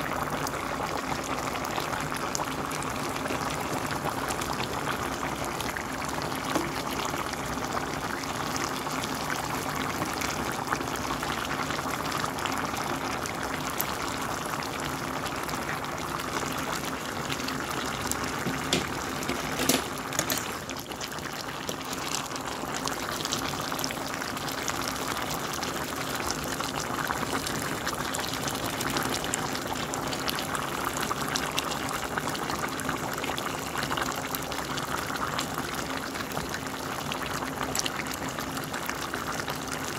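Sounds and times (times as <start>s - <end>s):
broth bubbling at a simmer: 0.0s - 39.9s.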